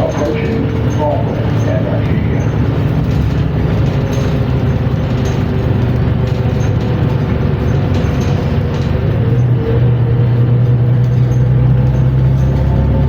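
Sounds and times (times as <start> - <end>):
bus engine droning: 0.0 - 13.0
high transmission whine: 0.0 - 13.0.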